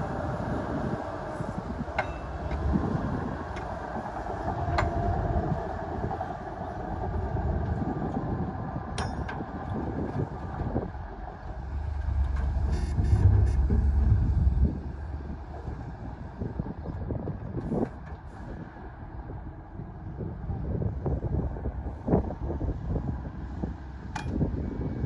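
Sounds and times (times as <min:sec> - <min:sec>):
heavy diesel machinery rumbling: 0:00.0 - 0:25.0.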